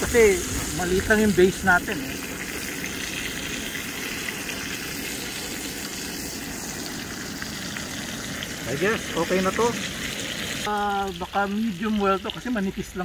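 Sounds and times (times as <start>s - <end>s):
steak sizzling in pan: 0.0s - 13.0s.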